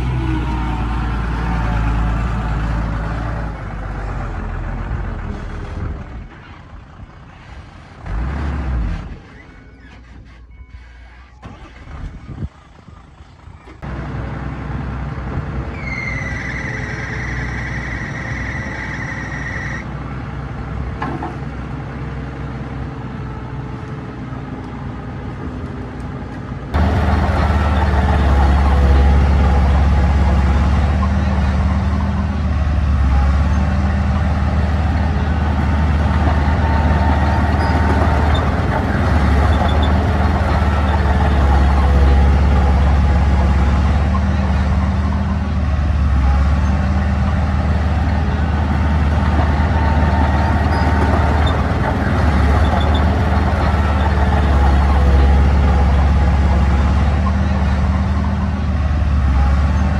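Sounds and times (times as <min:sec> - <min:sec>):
diesel engine of heavy machinery: 0:00.0 - 0:59.9.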